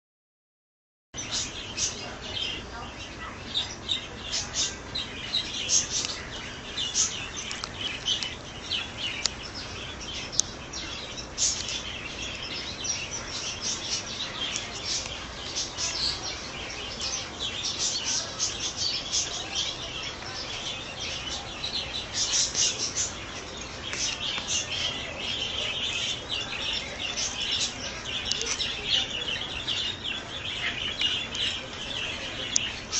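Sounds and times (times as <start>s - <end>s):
small birds chirping: 1.2s - 32.9s.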